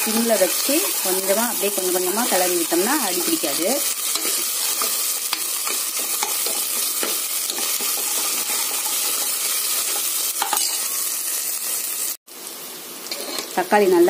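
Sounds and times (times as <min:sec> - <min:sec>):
onions frying in oil: 0:00.0 - 0:14.0.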